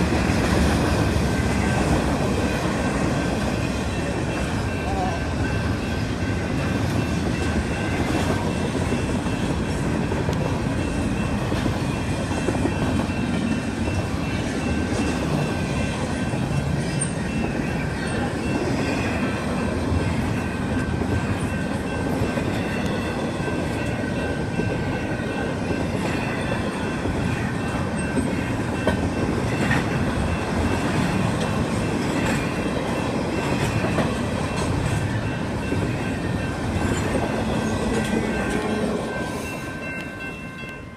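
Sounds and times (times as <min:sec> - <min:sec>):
wheels clacking over rail joints: 0:00.0 - 0:40.8
freight train wheels rumbling: 0:00.0 - 0:40.9.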